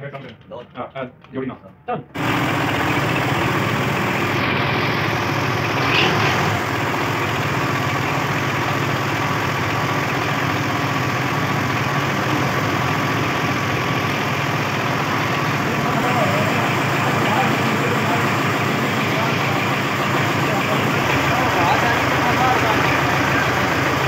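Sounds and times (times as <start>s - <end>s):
diesel tractor engine idling: 2.2s - 24.0s.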